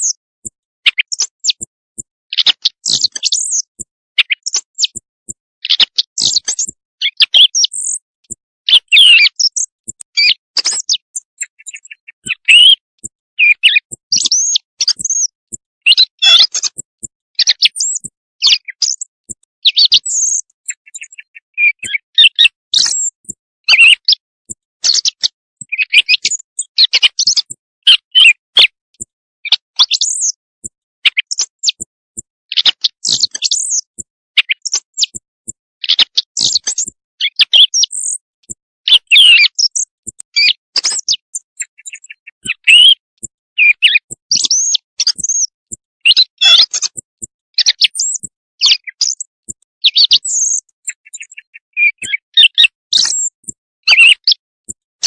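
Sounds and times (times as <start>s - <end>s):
recorded bird calls: 0.8s - 28.8s, 29.4s - 31.9s, 32.5s - 35.2s, 35.8s - 47.0s, 47.6s - 54.4s.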